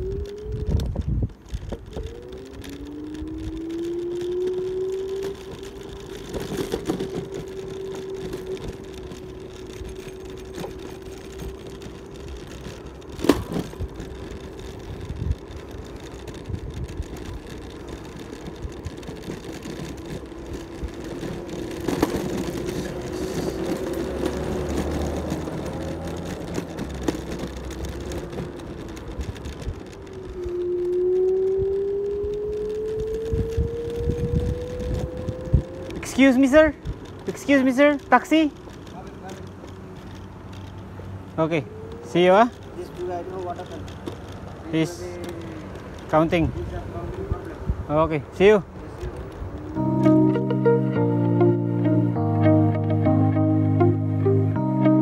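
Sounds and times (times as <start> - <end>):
electric scooter motor whining: 0.0 - 52.2
wind and road rumble: 0.0 - 55.0.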